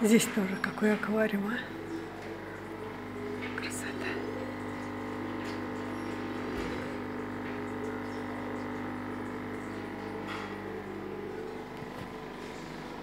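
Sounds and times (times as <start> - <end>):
aquarium pump humming: 0.0 - 13.0
water moving in tank: 1.8 - 13.0.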